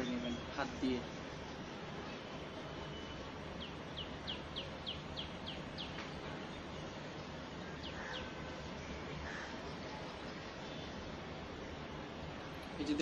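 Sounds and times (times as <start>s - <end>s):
bird chirping: 0.0s - 11.0s
steady background hiss: 0.0s - 13.0s.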